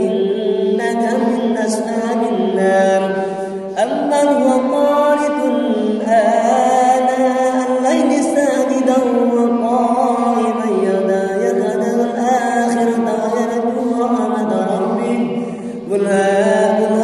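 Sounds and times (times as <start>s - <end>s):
young man chanting melodic recitation: 0.0s - 17.0s.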